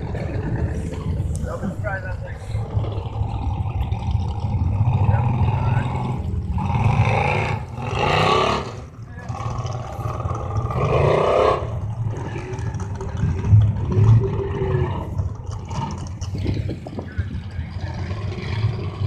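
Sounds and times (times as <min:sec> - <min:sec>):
low engine rumble: 0:00.0 - 0:19.0
truck engines revving: 0:00.0 - 0:19.0.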